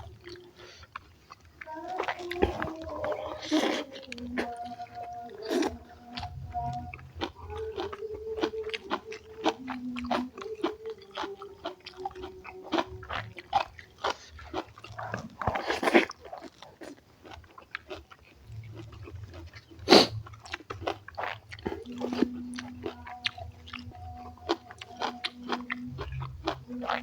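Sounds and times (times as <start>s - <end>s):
person chewing and crunching: 0.0s - 27.0s.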